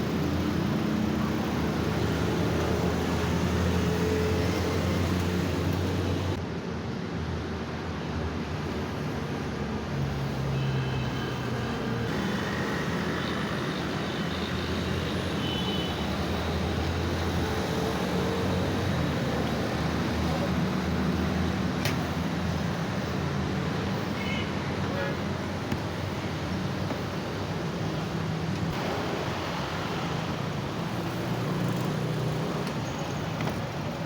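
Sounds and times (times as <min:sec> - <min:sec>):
road traffic passing: 0:00.0 - 0:34.0.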